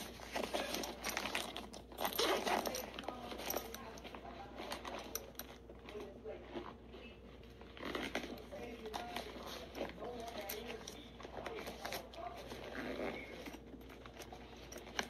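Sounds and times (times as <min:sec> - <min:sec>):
crinkling and crunching: 0:00.0 - 0:15.0.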